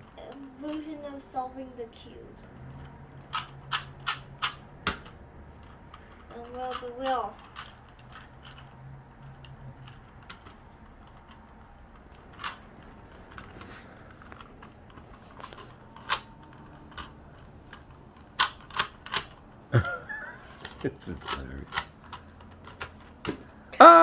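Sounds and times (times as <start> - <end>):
puzzle cube clicking: 2.8 - 11.4, 12.0 - 23.3.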